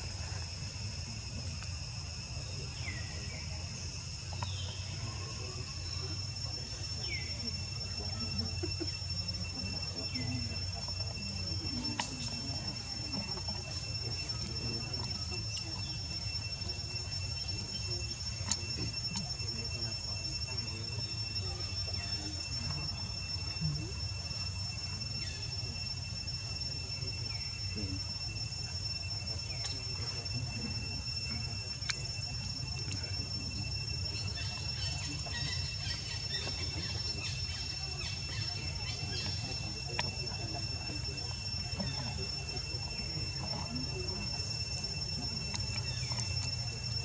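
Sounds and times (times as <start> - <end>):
high whine of steady tones: 0.0 - 47.0.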